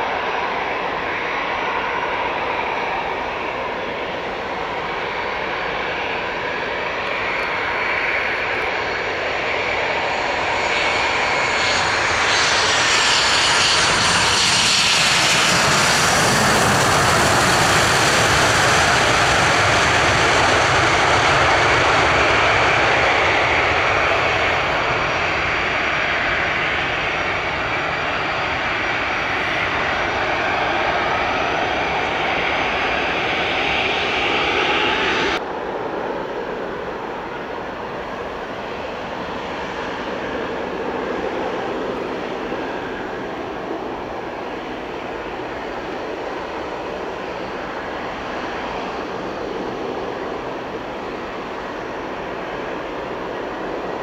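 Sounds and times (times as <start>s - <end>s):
airliner engines passing: 0.0s - 54.0s
falling engine whine: 0.0s - 54.0s.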